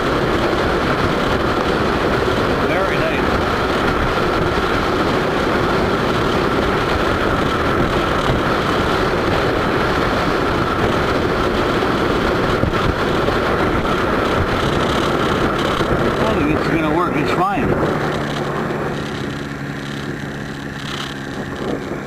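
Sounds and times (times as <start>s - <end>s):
rushing wind noise: 0.0s - 22.0s
vehicle engine drone: 0.0s - 22.0s.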